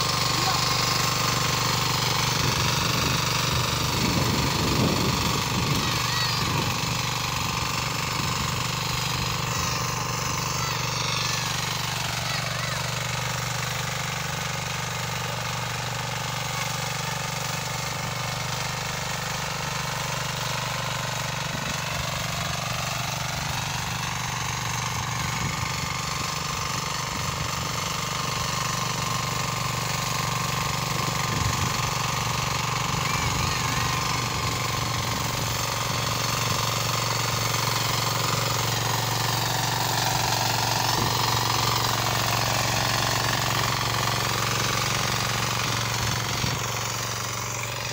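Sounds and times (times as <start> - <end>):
diesel tractor engine running: 0.0 - 47.9.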